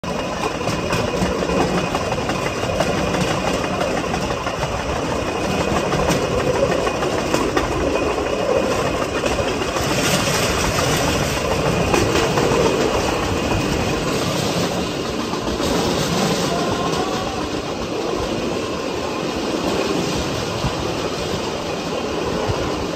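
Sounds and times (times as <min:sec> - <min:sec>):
steel wheels rumbling on rails: 0:00.0 - 0:22.9.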